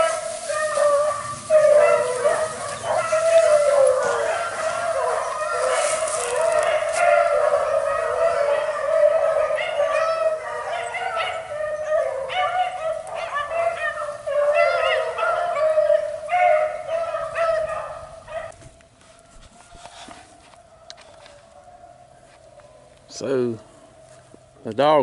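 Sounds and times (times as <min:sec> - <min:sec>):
hounds baying: 0:00.0 - 0:24.5.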